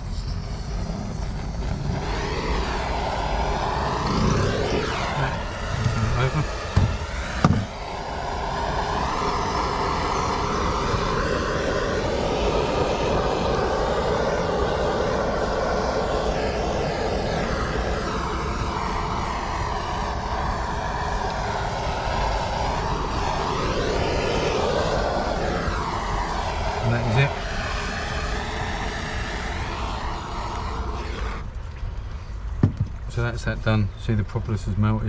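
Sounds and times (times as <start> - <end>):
blowtorch flame burning: 0.0 - 33.4.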